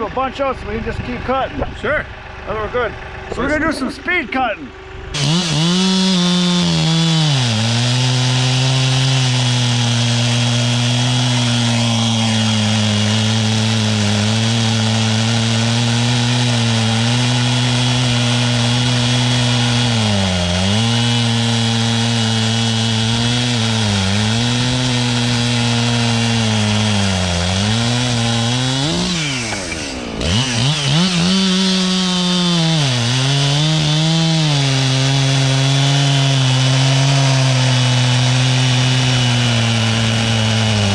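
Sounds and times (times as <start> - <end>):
chainsaw cutting through log: 5.0 - 40.9.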